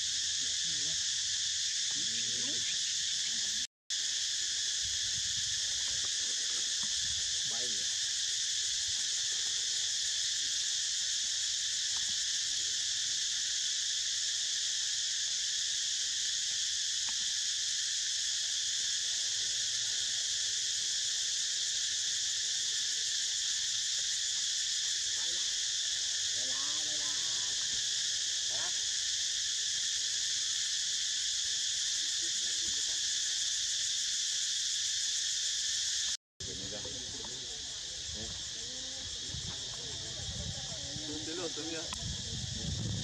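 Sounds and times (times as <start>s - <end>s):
insect chorus buzzing trill: 0.0s - 43.0s.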